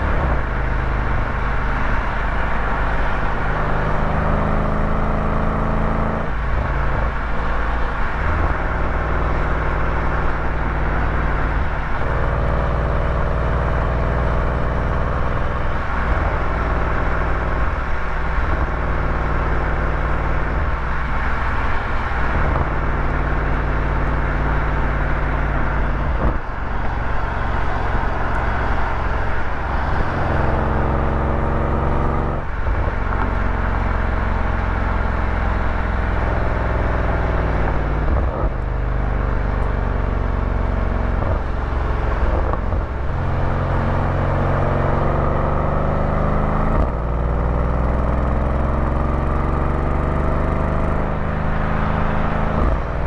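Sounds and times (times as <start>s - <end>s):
road and wind noise: 0.0s - 53.0s
vehicle engine running: 0.0s - 53.0s.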